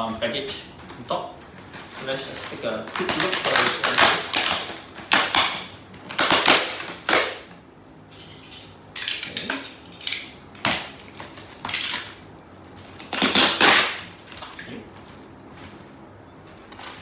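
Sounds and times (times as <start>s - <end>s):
plastic and paper crinkling: 0.0s - 7.4s, 8.1s - 17.0s.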